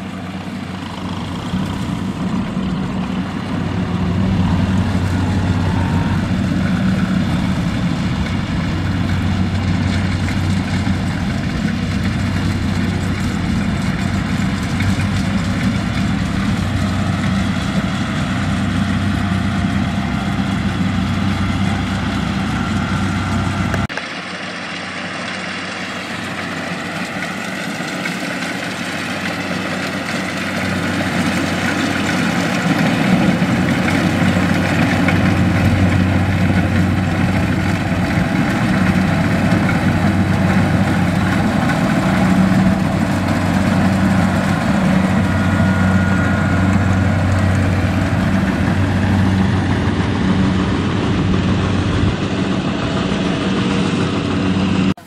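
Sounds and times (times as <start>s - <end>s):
combine harvester diesel engine: 0.0s - 55.0s.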